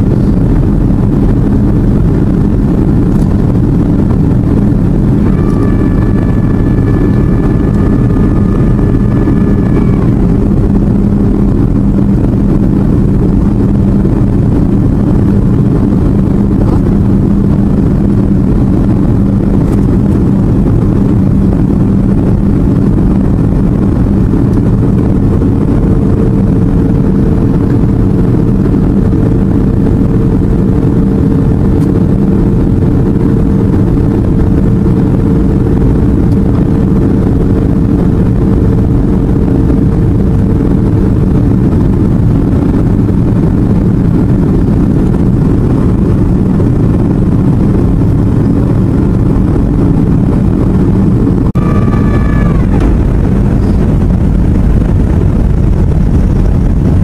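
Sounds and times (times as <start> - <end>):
higher steady tone: 0.0 - 42.9, 44.6 - 56.7
airliner cabin engine drone: 0.0 - 57.0
constant low hum: 0.0 - 57.0.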